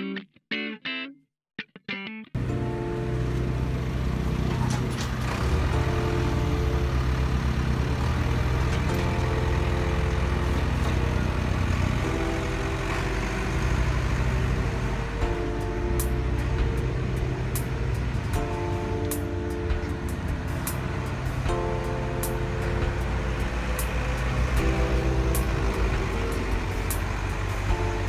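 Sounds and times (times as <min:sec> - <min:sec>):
model wheel loader engine droning: 0:02.4 - 0:28.0.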